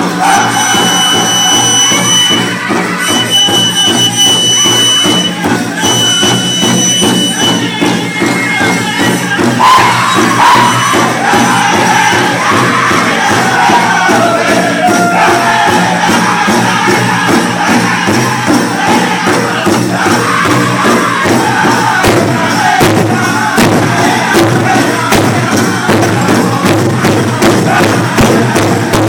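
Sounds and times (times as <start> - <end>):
crowd noise: 0.0 - 29.0
group singing in high voices: 0.0 - 29.0
large drum beating: 0.0 - 29.0.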